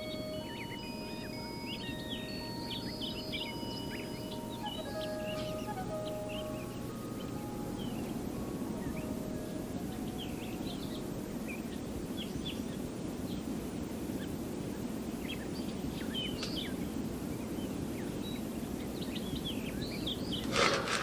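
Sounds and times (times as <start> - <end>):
low background rush: 0.0 - 21.0
small birds chirping: 0.0 - 21.0.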